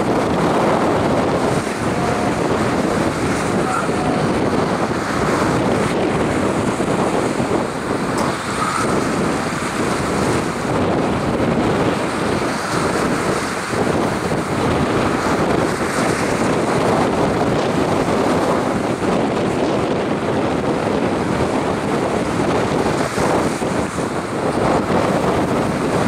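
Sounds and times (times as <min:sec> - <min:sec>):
heavy sea surf: 0:00.0 - 0:26.0
storm wind across microphone: 0:00.0 - 0:26.0.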